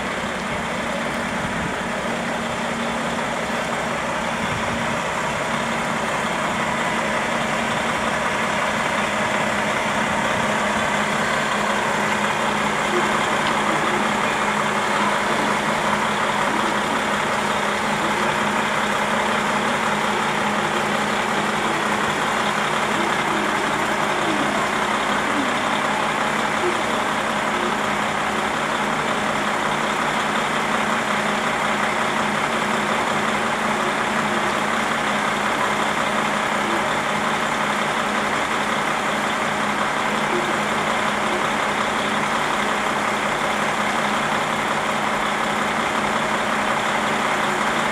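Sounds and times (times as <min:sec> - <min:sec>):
diesel railcar engine idling: 0:00.0 - 0:47.9.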